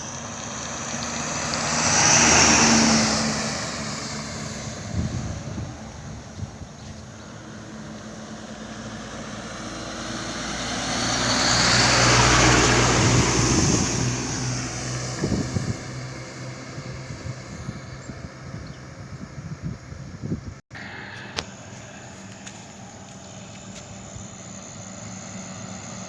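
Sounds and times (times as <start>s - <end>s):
truck passing by: 0.0s - 26.0s.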